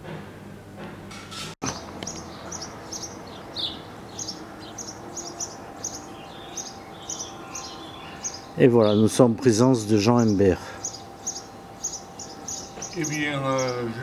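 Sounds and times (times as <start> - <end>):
small bird chirping: 1.6 - 9.2, 10.0 - 14.0.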